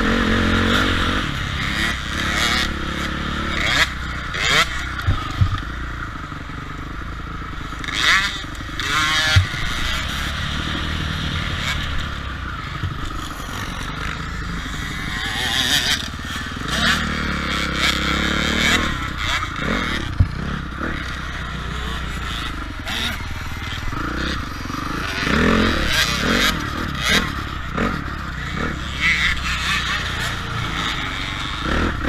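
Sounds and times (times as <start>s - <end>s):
motocross bike engines revving: 0.0s - 32.0s.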